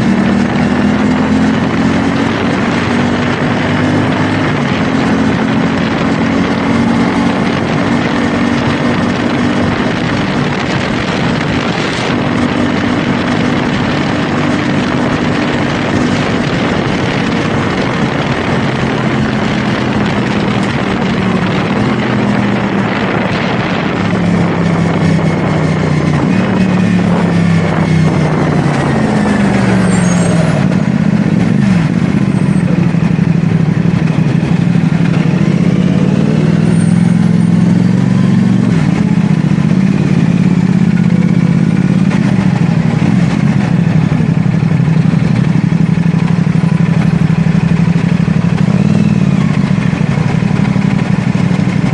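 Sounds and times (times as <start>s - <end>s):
motorcycle engine running: 0.0s - 51.9s
wind rush over microphone: 0.0s - 51.9s.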